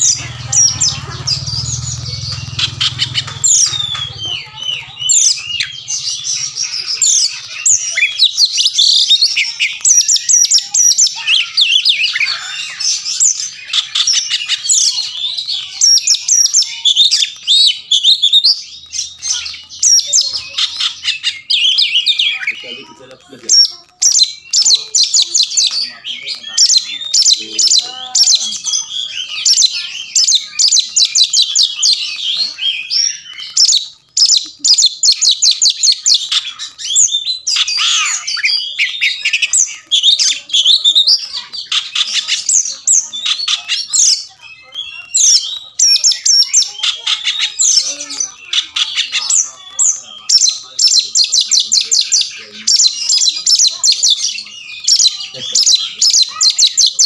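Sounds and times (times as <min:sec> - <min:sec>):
bird singing trills: 0:00.0 - 0:57.0.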